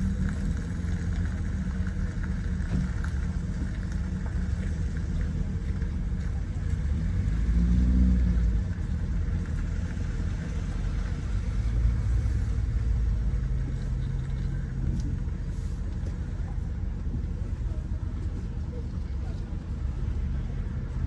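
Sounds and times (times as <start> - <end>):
car engine running low speed: 0.0 - 21.0.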